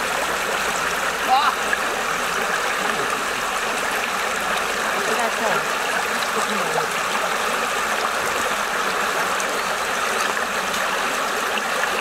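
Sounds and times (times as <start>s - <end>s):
stream rushing over stones: 0.0s - 12.0s.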